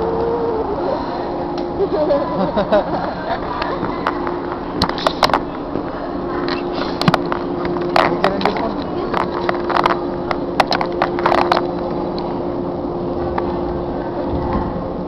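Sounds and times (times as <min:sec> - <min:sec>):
stationary train humming: 0:00.0 - 0:15.0.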